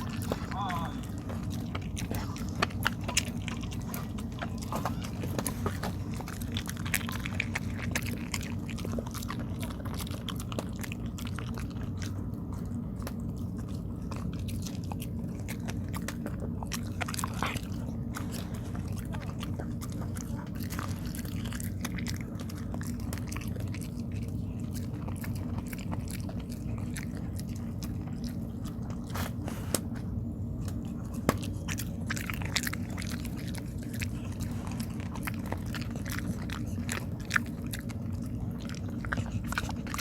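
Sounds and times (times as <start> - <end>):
dog chewing: 0.0 - 40.0
steady low hum: 0.0 - 40.0.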